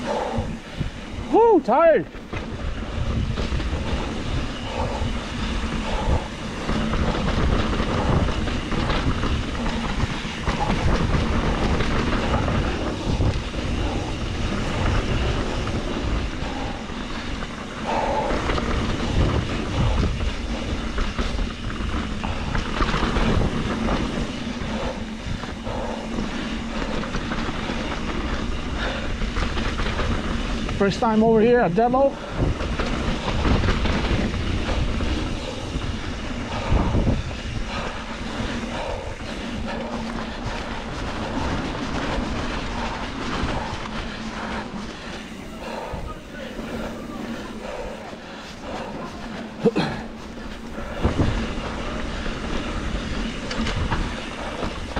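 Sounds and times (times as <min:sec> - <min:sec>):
bike rattling rumble: 0:00.0 - 0:54.9
bike tyres rolling over dirt: 0:00.0 - 0:54.9.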